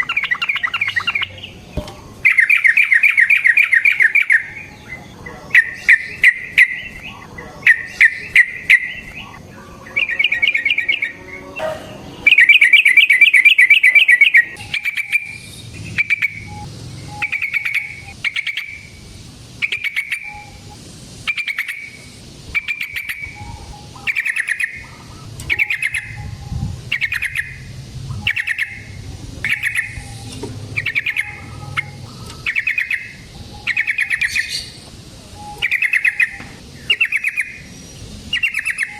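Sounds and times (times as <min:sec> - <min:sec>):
bulbul singing: 0:00.0 - 0:38.9.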